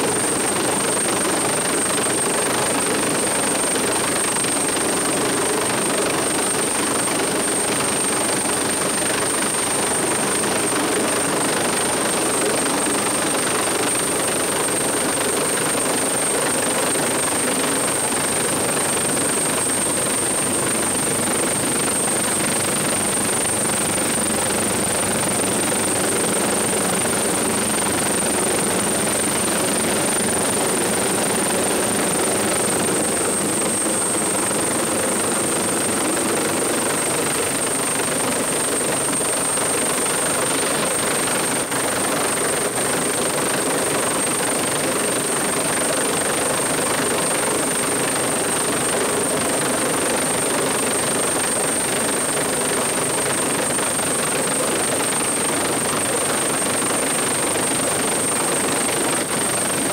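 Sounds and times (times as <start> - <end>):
helicopter rotor and engine noise: 0.0 - 59.9.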